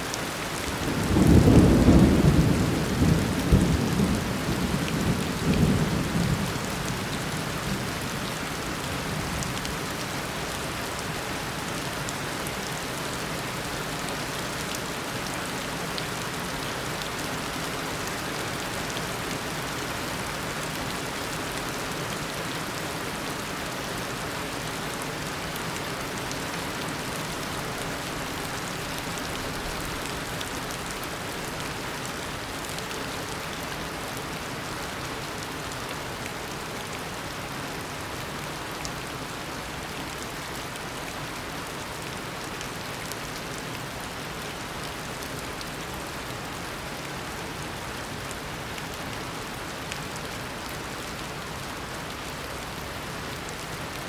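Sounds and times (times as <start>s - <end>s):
heavy rain hitting surfaces: 0.0s - 54.0s.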